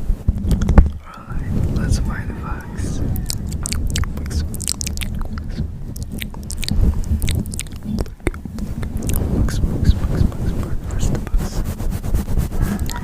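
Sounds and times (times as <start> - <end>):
low rumble: 0.0 - 13.0
bug chewing crackles: 0.4 - 11.6, 12.6 - 13.0.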